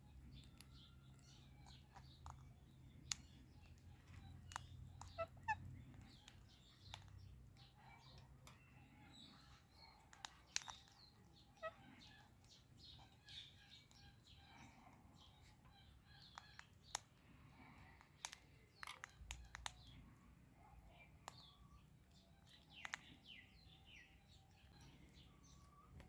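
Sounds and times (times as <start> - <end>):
parrots chirping and clicking: 0.0 - 26.0.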